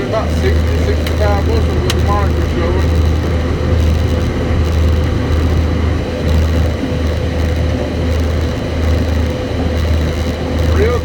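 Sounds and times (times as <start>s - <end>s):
combine engine drone: 0.0s - 11.0s
steady high whine: 0.0s - 11.0s.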